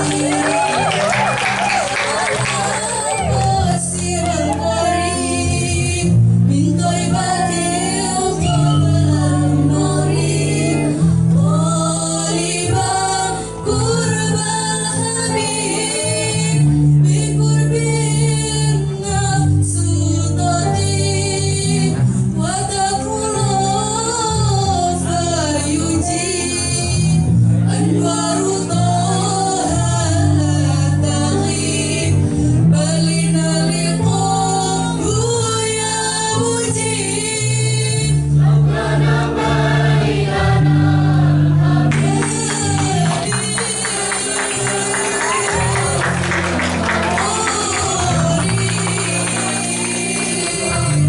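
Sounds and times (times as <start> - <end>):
choir singing slow melody: 0.0 - 19.5, 25.4 - 51.0
instrumental accompaniment: 0.0 - 51.0.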